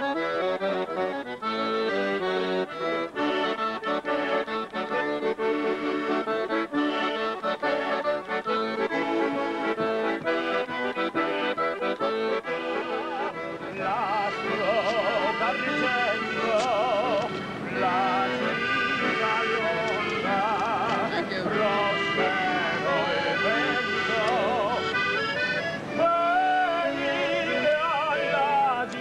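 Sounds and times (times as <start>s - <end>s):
accordion playing: 0.0s - 29.0s.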